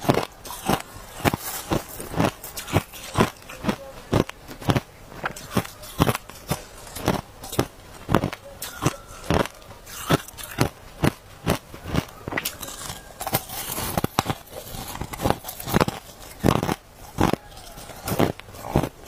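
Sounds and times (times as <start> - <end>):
ice crunching between teeth: 0.0 - 19.0.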